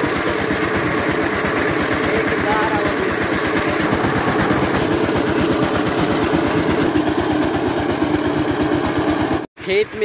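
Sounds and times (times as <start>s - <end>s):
diesel tiller engine chugging: 0.0s - 10.0s.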